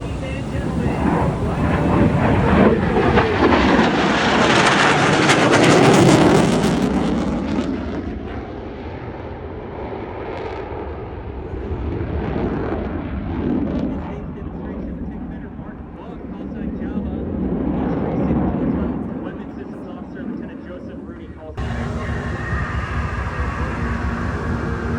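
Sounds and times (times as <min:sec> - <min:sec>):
aircraft engine passing low: 0:00.0 - 0:24.9.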